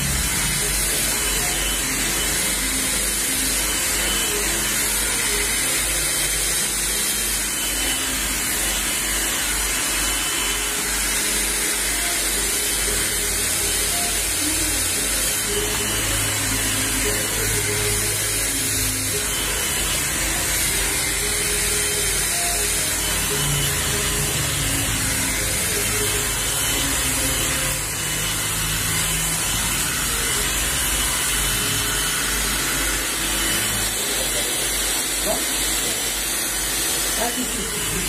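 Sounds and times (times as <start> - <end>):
hair dryer running: 0.0 - 38.0.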